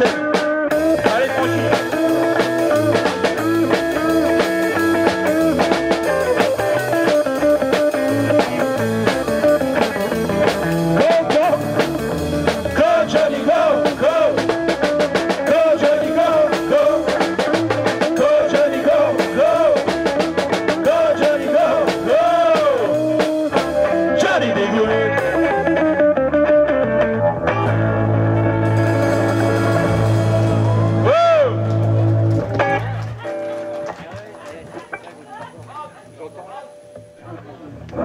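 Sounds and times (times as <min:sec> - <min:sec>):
bass: 0:00.0 - 0:38.0
electric guitar: 0:00.0 - 0:38.0
lead guitar bent notes: 0:00.0 - 0:38.0.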